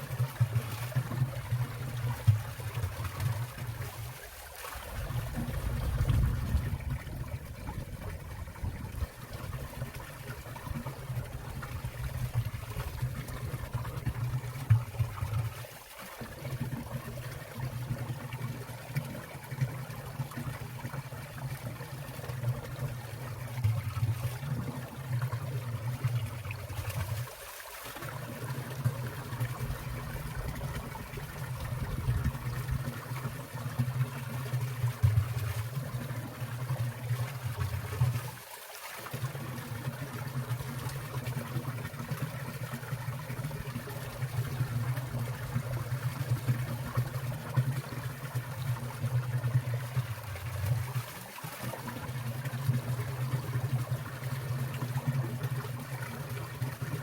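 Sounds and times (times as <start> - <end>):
stream splashing and trickling: 0.0 - 57.0.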